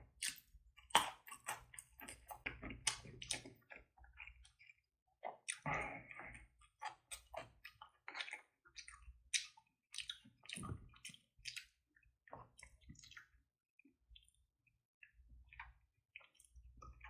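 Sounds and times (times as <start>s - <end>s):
close chewing sounds: 0.1s - 13.4s, 14.1s - 14.4s, 15.0s - 17.0s.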